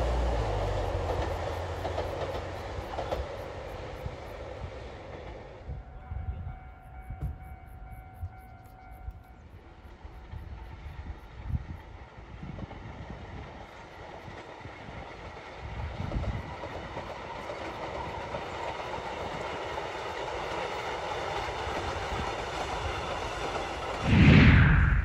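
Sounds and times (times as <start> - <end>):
train running on rails: 0.0 - 24.2.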